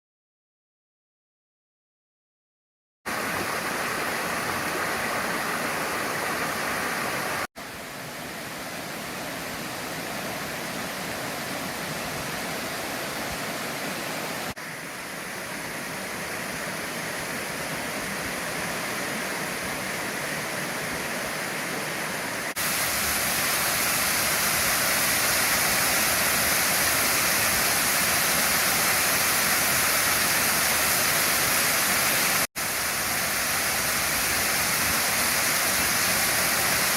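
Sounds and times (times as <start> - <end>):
rush of falling water: 3.1 - 36.9.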